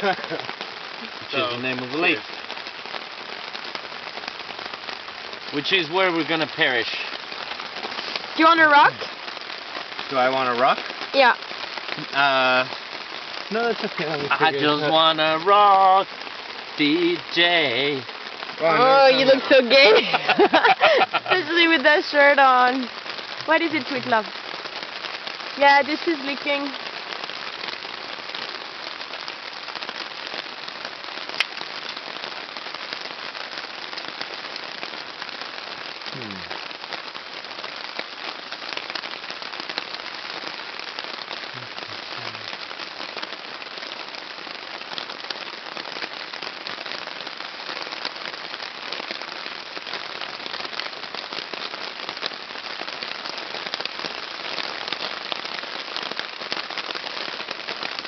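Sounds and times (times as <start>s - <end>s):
heavy rain on a tarp: 0.0s - 58.0s.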